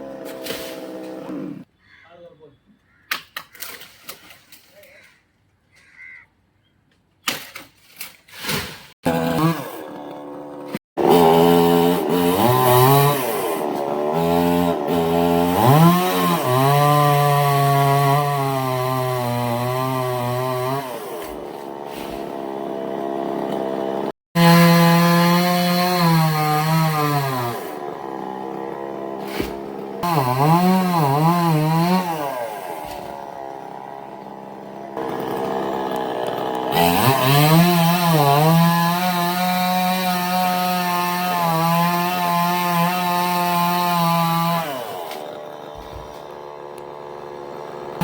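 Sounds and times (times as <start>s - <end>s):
chainsaw cutting wood: 0.0s - 1.7s, 9.0s - 48.0s.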